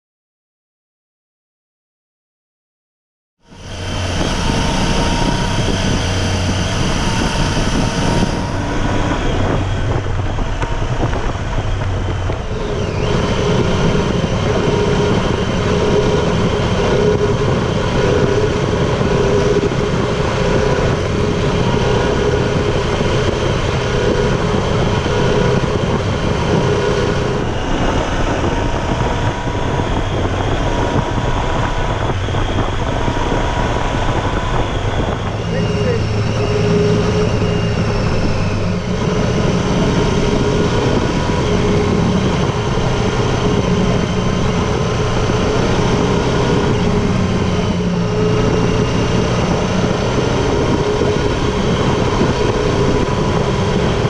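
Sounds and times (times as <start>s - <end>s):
steady high whine: 3.4s - 54.0s
motorcycle engine pulling: 3.5s - 54.0s.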